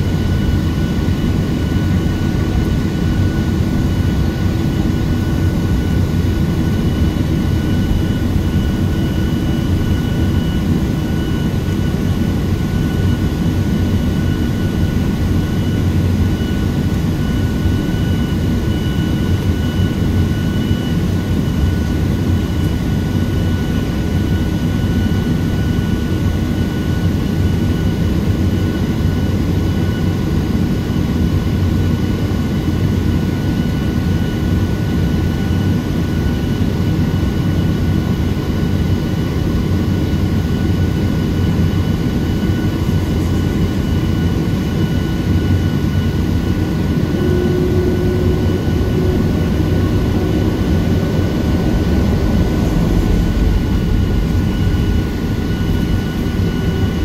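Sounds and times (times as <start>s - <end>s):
jet engine rumble and whine: 0.0s - 57.0s.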